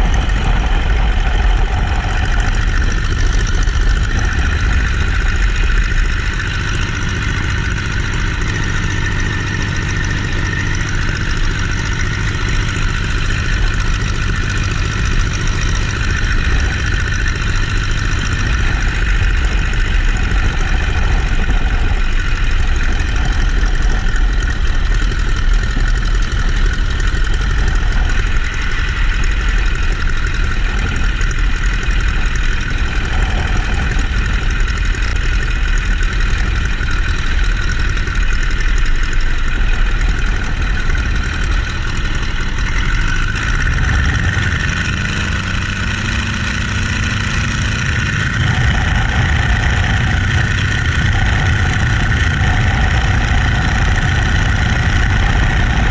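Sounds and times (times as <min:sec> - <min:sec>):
biplane radial engine in flight: 0:00.0 - 0:55.9
wind rush in open cockpit: 0:00.0 - 0:55.9.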